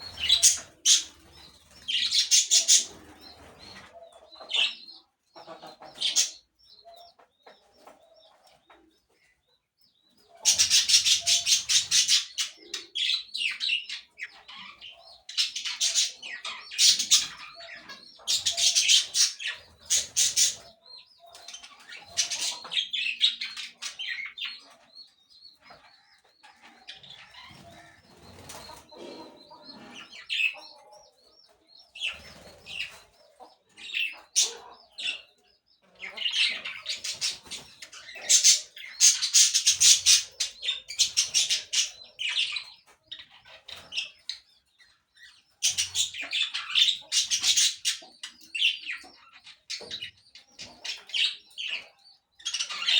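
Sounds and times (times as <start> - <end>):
bird calls: 0.0 - 52.9
birds chirping: 0.0 - 52.9.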